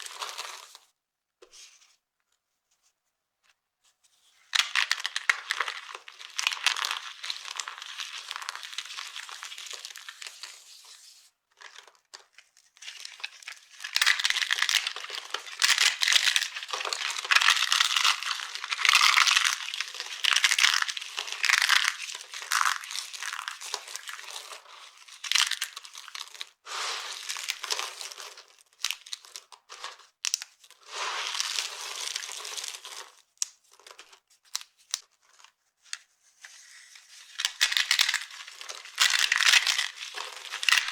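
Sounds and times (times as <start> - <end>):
dry soap crunching: 0.0 - 0.8, 4.6 - 10.7, 11.6 - 35.5, 36.7 - 40.9.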